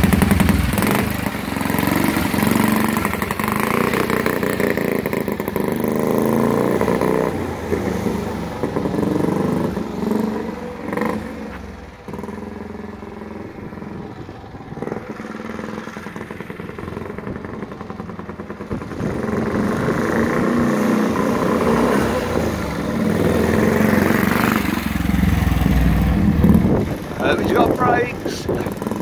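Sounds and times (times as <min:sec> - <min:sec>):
motorcycle engine passing by: 0:00.0 - 0:29.0.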